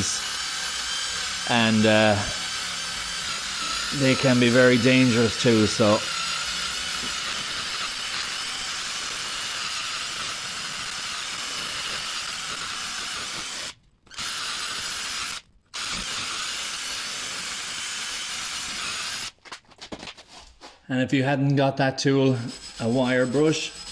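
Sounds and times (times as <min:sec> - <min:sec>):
cordless drill grinding rust: 0:00.0 - 0:19.6, 0:22.1 - 0:23.9.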